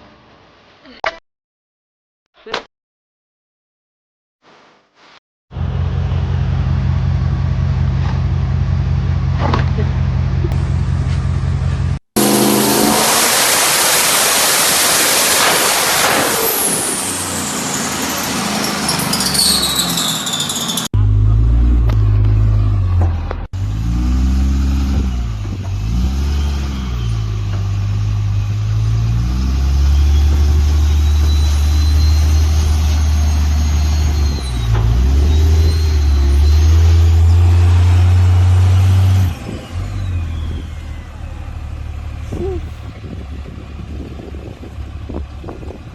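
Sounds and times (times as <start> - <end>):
diesel truck engine revving: 5.5 - 45.9.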